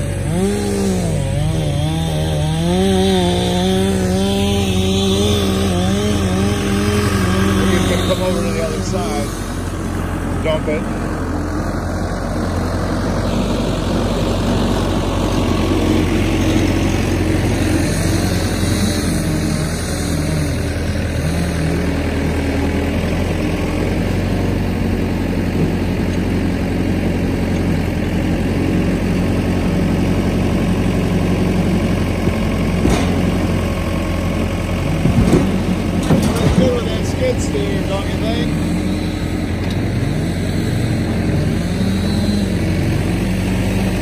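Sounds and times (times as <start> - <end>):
skid steer engine running: 0.0 - 44.0.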